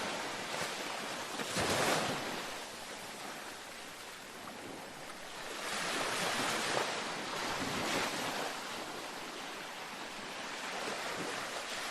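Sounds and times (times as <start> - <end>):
ocean waves washing onto beach: 0.0 - 11.9.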